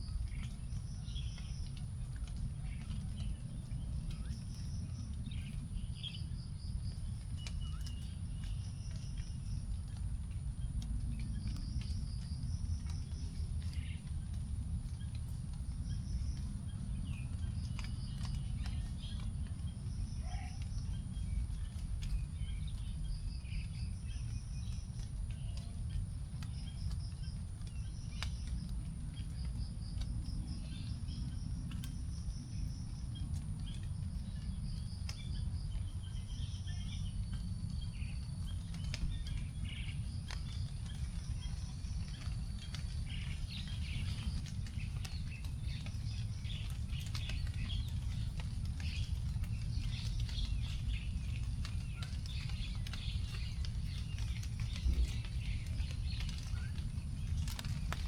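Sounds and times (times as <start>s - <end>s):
rainwater dripping onto leaves: 0.0s - 58.0s.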